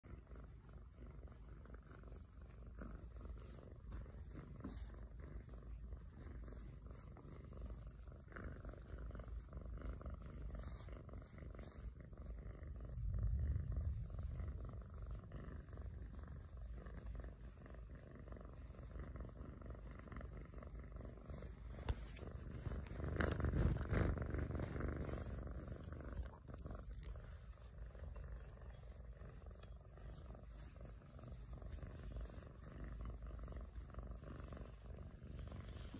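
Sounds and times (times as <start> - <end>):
kitten purring: 0.0 - 35.9.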